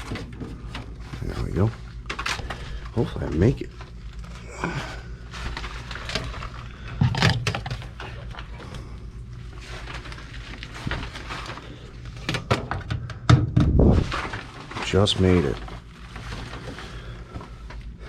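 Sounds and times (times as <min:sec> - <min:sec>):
power cord rustling and clicking: 0:00.0 - 0:04.4, 0:05.3 - 0:08.7, 0:09.4 - 0:18.0
steady low hum: 0:00.0 - 0:18.0.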